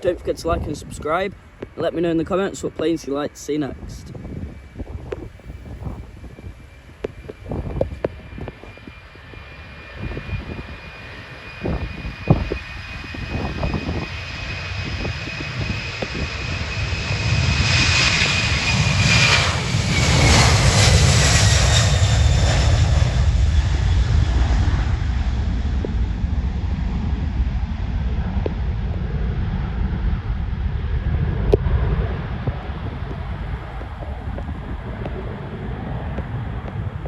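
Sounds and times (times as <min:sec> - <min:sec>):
high engine whine: 0:00.0 - 0:37.0
jet engines roaring: 0:00.0 - 0:37.0
wind buffeting microphone: 0:00.0 - 0:37.0.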